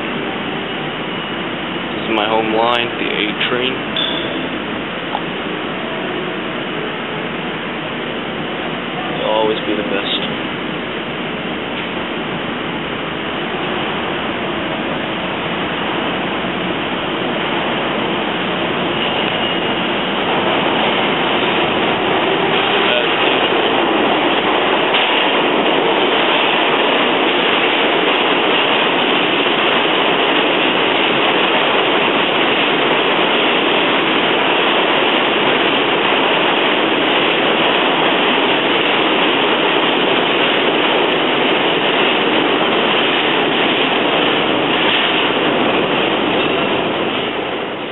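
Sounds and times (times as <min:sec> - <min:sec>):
subway train rumbling on rails: 0:00.0 - 0:47.9.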